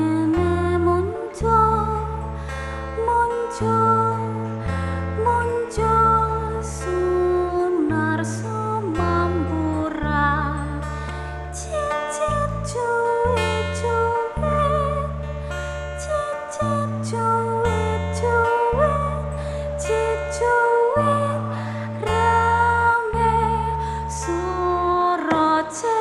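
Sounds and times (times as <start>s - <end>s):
person singing: 0.0s - 2.4s, 3.0s - 4.6s, 5.2s - 26.0s.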